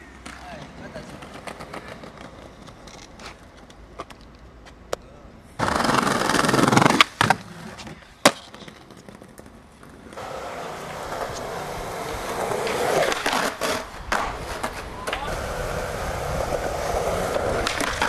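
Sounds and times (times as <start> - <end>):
skateboard clacking on ground: 0.0 - 18.0
skateboard wheels rolling on paving: 0.0 - 18.0.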